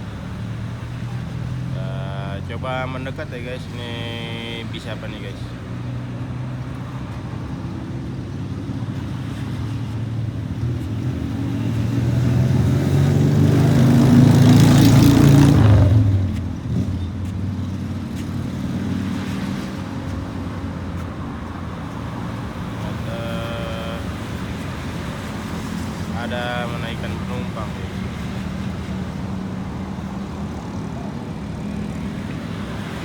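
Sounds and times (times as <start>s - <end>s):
steady engine hum: 0.0s - 33.0s
vehicle passing close by: 0.0s - 33.0s.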